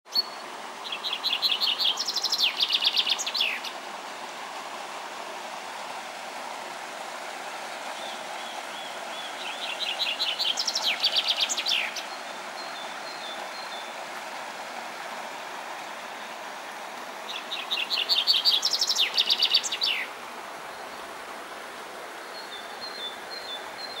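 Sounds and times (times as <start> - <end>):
songbird singing: 0.1 - 4.3, 7.6 - 21.3, 22.0 - 24.0
stream and waterfall rushing: 0.1 - 24.0.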